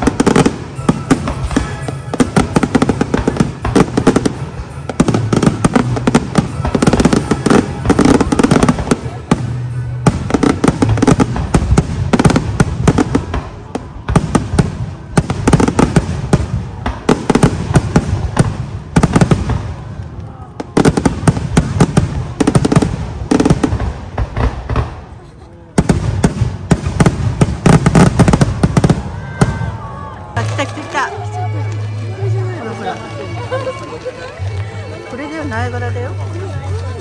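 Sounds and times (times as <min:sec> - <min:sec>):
fireworks bursting and crackling: 0:00.0 - 0:37.0.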